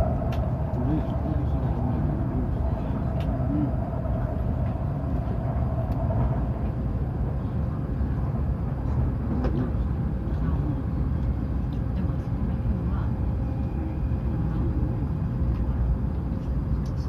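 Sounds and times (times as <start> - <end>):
train cabin low rumble: 0.0 - 17.0.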